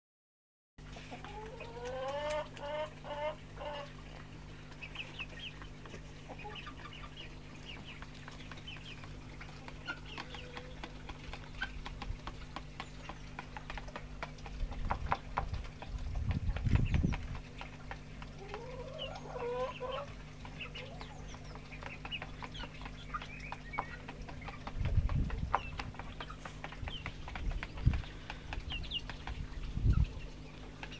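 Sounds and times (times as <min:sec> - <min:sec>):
hens calling: 0:01.0 - 0:12.7, 0:16.6 - 0:30.9.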